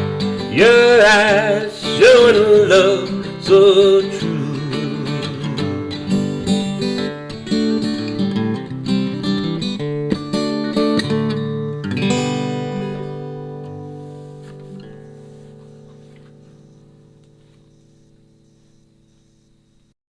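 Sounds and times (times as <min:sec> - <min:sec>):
acoustic guitar playing: 0:00.0 - 0:19.8.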